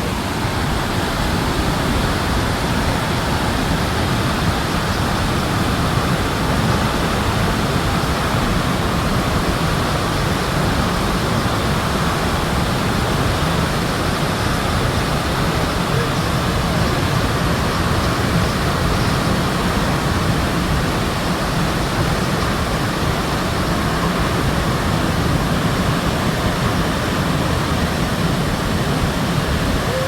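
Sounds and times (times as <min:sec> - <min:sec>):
waterfall roar: 0:00.0 - 0:30.0.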